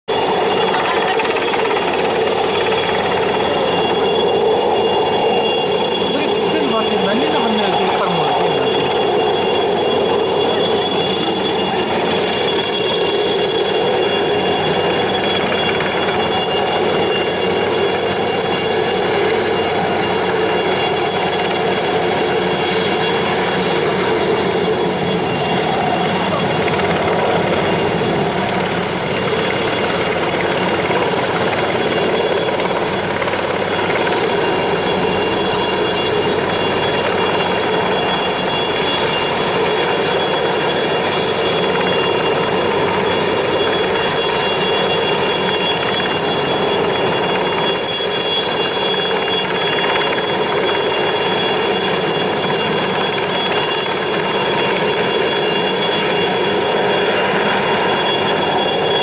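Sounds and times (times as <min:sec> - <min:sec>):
helicopter rotor rush: 0:00.1 - 0:59.0
helicopter turbine whine: 0:00.1 - 0:59.0.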